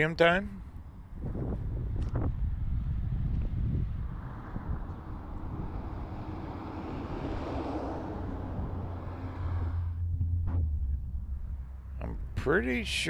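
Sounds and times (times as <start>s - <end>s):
wind rumbling on microphone: 0.5s - 12.9s
car passing: 1.1s - 13.0s.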